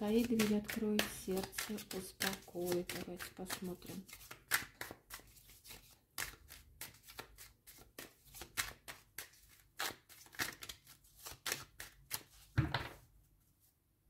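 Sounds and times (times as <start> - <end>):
cards being shuffled by hand: 0.0 - 13.0.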